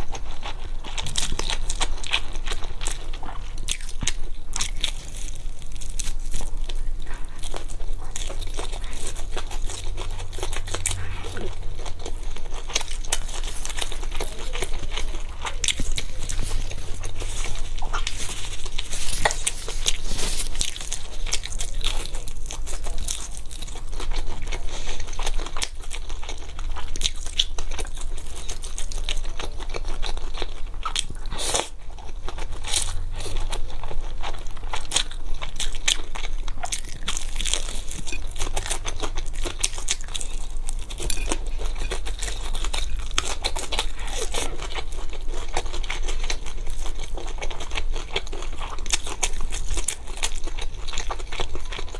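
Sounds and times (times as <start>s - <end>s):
crunching and chewing food: 0.0s - 51.9s.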